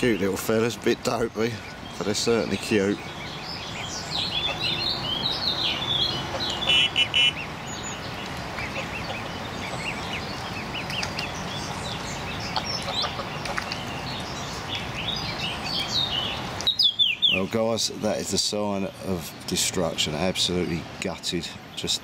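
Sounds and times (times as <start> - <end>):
goslings peeping: 0.0 - 17.7
steady background hiss: 0.0 - 22.0.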